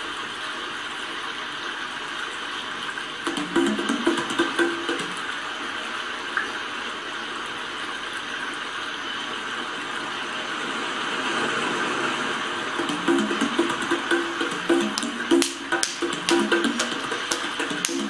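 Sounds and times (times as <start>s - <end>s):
steady hissing noise: 3.2s - 18.0s.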